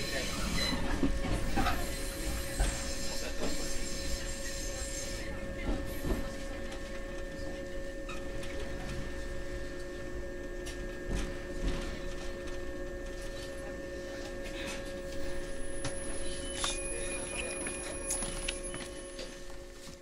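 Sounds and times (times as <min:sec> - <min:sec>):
electric railcar equipment humming: 0:00.0 - 0:20.0.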